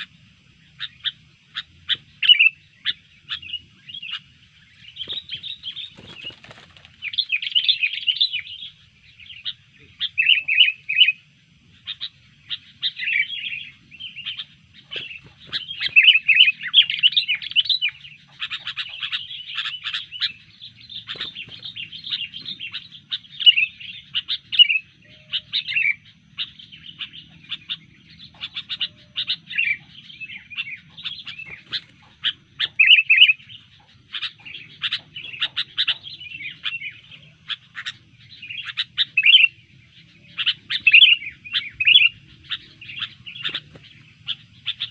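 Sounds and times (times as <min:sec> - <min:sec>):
bird singing and chattering: 0:00.0 - 0:44.9.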